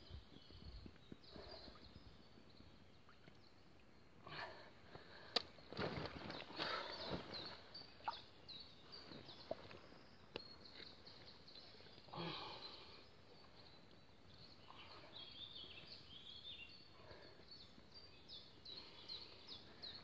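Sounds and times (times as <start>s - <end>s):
faint songbirds chirping: 0.0s - 20.0s.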